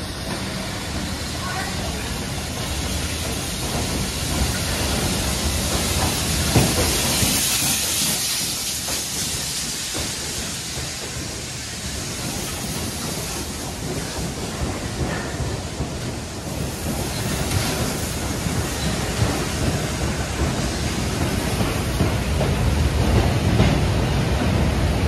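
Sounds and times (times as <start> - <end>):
steam hissing: 0.0 - 25.0
steam locomotives rumbling past: 0.0 - 25.0.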